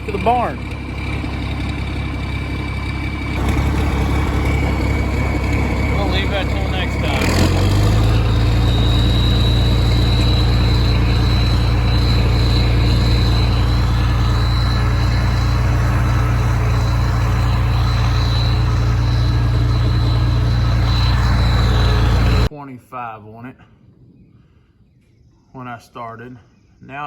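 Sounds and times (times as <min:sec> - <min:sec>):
high whine: 0:00.0 - 0:22.5
tractor engine running: 0:00.0 - 0:22.5.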